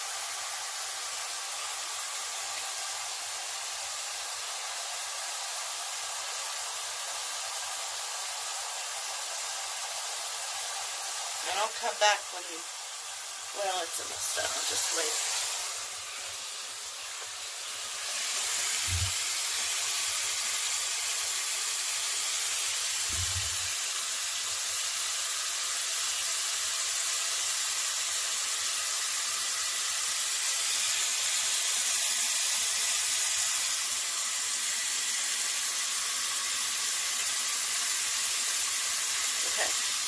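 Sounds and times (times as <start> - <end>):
shower water spraying into plastic tub: 0.0 - 40.0.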